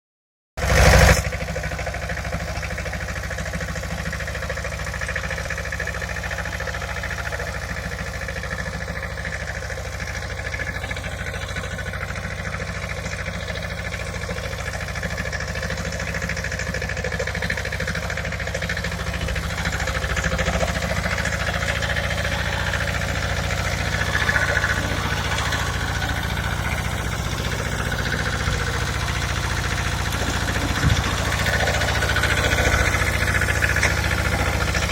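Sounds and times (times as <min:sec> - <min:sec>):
tractor engine idling: 0:00.6 - 0:34.9.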